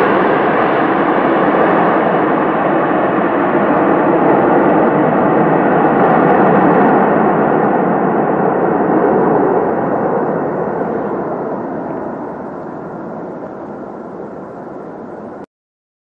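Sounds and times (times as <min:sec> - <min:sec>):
airplane engine rushing: 0:00.0 - 0:15.5.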